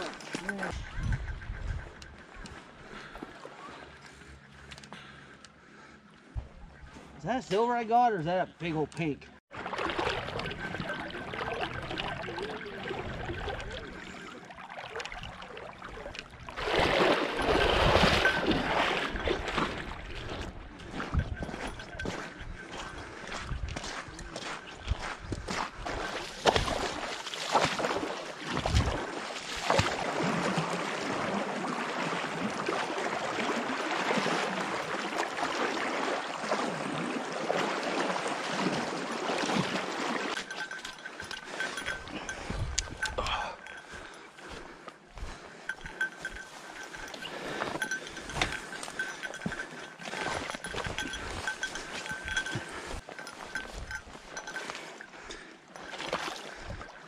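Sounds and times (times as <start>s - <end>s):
wading through shallow water: 0.0s - 8.4s, 9.4s - 57.0s
splashing footsteps: 9.5s - 57.0s.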